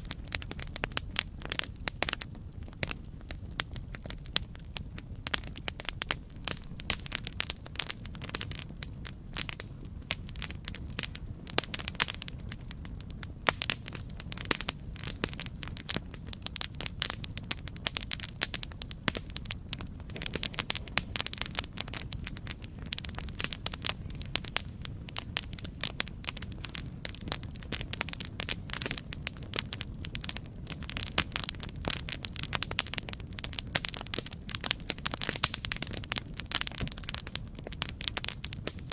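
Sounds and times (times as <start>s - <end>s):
campfire wood crackling and popping: 0.0s - 38.9s
low rumble of flames: 0.0s - 38.9s.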